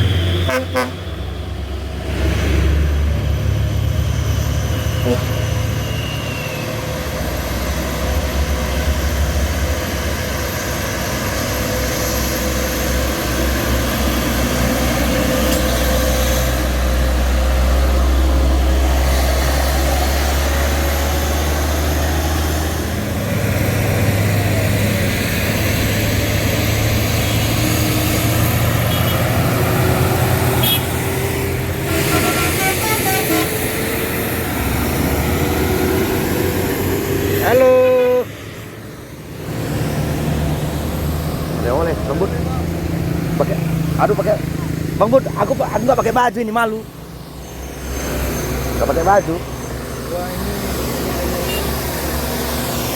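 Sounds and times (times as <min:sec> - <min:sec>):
heavy truck engine running: 0:00.0 - 0:52.9.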